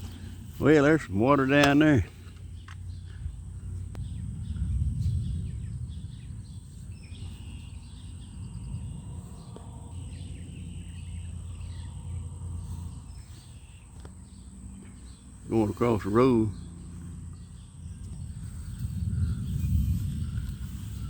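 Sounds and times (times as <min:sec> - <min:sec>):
birds chirping: 0:00.0 - 0:21.0
low rumble on microphone: 0:02.0 - 0:21.0.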